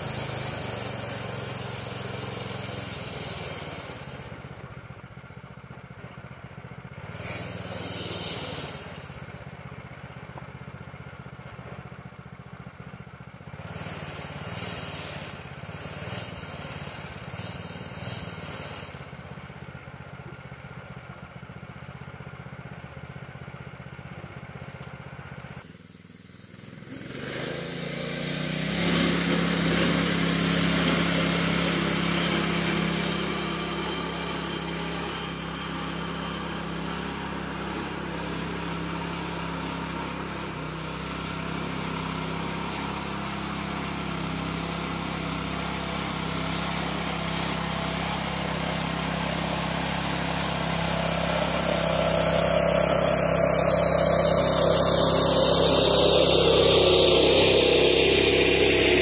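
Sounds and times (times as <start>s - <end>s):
tractor engine running under load: 0.0s - 14.5s, 18.9s - 59.0s.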